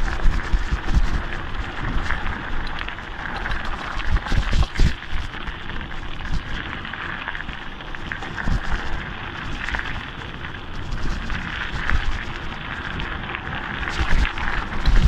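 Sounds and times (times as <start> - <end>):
bike tyres crackling on gravel: 0.0 - 15.0.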